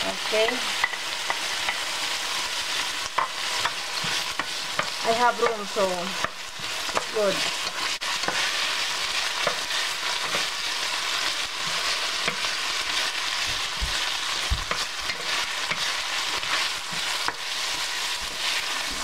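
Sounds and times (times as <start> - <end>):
food sizzling in a frying pan: 0.0 - 19.0
wooden spatula scraping a pan: 0.4 - 19.0.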